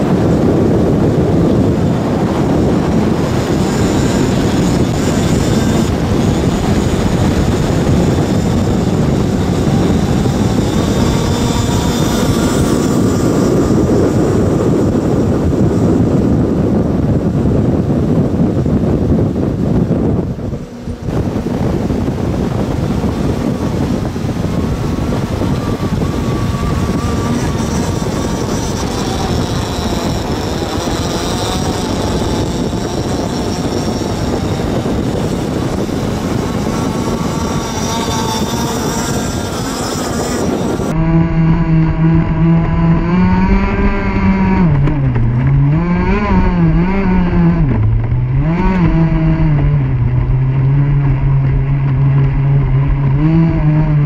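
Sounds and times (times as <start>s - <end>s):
faint engine whine: 0.0s - 54.0s
loud steady rush: 0.0s - 54.0s
model boat engine revving: 0.0s - 54.0s.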